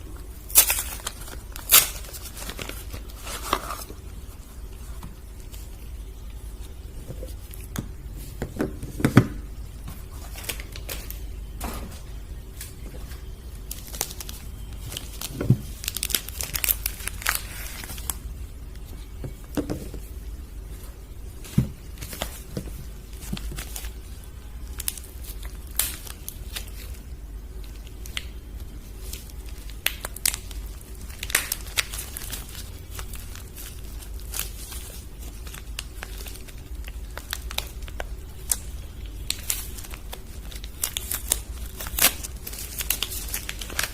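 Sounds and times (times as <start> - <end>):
wrappers crinkling: 0.4 - 8.4, 9.3 - 43.9.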